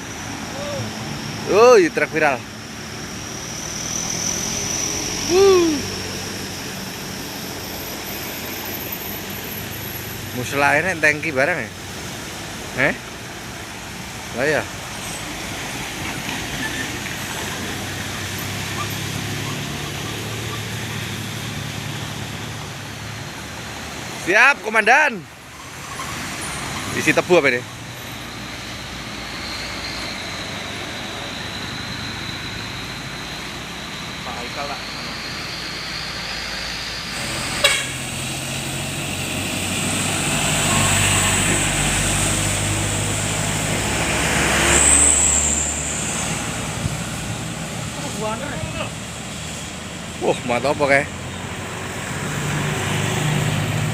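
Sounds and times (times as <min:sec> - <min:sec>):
truck engine humming: 0:00.0 - 0:24.2, 0:24.8 - 0:53.9
road traffic noise: 0:00.0 - 0:53.9.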